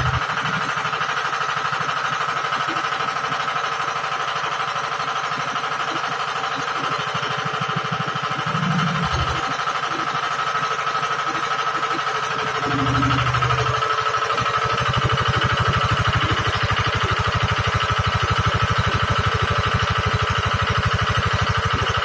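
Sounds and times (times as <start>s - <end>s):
drilling rig engine knocking: 0.0s - 22.0s.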